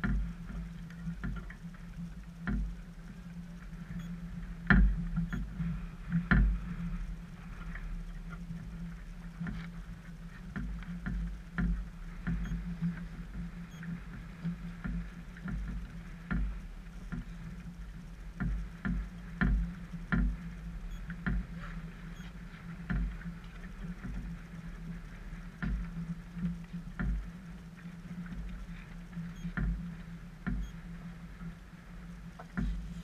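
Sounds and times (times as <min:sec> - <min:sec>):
knocks and taps on a boat: 0:00.0 - 0:06.9, 0:07.6 - 0:31.6, 0:32.2 - 0:33.0
steady low hum: 0:00.0 - 0:33.0.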